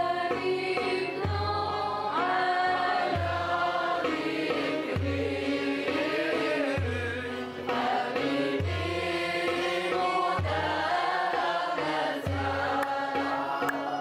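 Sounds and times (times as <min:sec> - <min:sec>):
deep drum beats: 0:00.0 - 0:14.0
voices chanting: 0:02.6 - 0:14.0.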